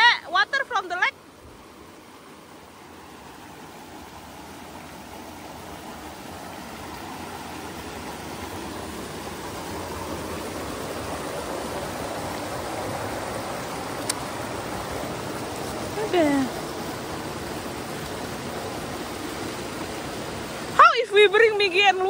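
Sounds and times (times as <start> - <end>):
water rushing over weir: 0.0 - 22.0.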